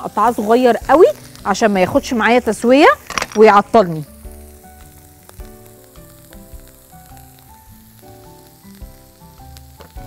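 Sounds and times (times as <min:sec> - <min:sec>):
soft background music: 0:00.0 - 0:10.0
vegetables sizzling in oil: 0:00.0 - 0:10.0.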